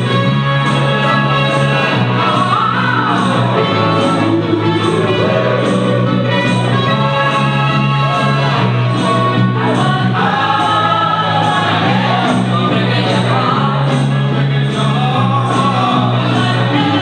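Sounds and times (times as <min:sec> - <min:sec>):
loud soul music: 0:00.0 - 0:17.0
singing voices: 0:00.0 - 0:17.0
steady bass line: 0:00.0 - 0:17.0.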